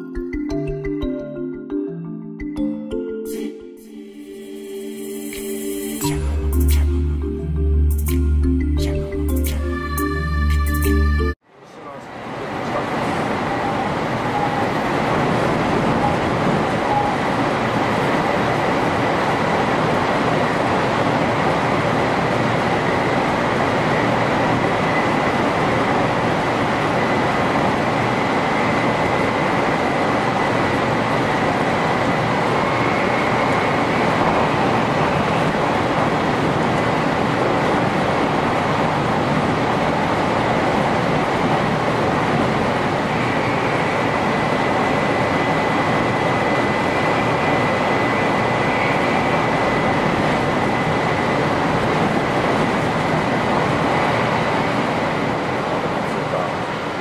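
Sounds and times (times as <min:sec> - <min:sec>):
train rushing running noise: 0:03.3 - 0:57.0.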